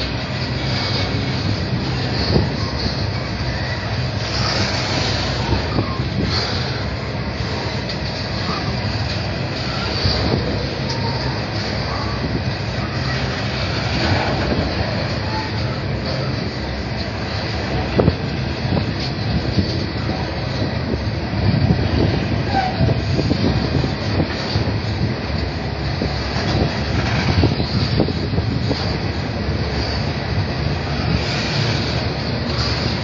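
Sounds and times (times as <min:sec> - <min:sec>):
train wheels clattering over rails: 0:00.0 - 0:33.0.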